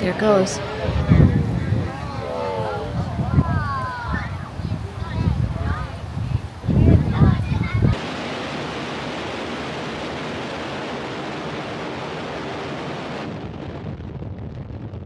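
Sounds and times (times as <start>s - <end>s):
rocket engines rumbling: 0.0s - 15.0s.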